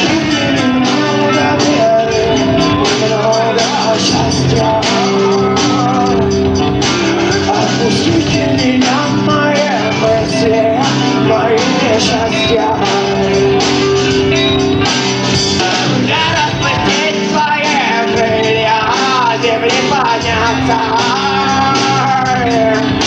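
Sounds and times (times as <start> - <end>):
person singing: 0.0 - 14.9, 15.8 - 23.0
drums: 0.0 - 23.0
guitars: 0.0 - 23.0.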